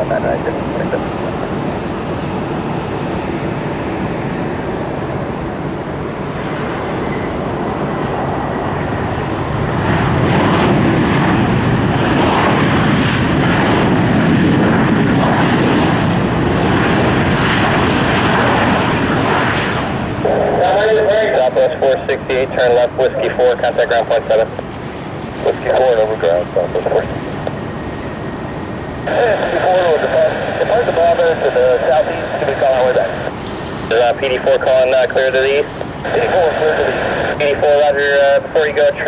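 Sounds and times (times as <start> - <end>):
jet airliner engine rumble: 0.0 - 39.0.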